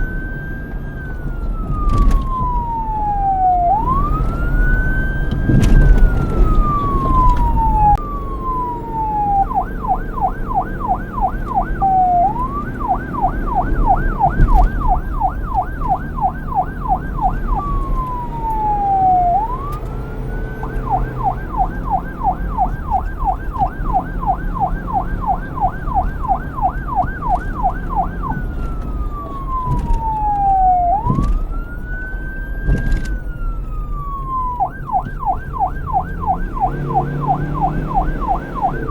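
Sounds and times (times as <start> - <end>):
electronic police siren: 0.0 - 38.9.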